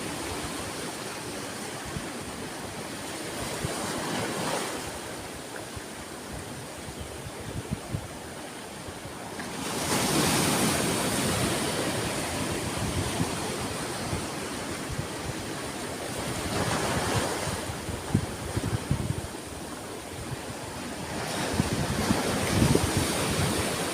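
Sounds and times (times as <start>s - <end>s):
ocean waves breaking: 0.0s - 6.9s, 8.1s - 23.9s.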